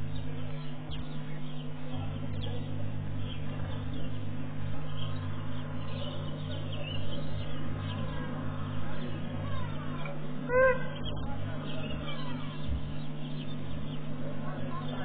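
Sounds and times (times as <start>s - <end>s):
bird chirps and calls: 0.0s - 8.2s, 10.4s - 15.0s
steady low hum: 0.0s - 15.0s.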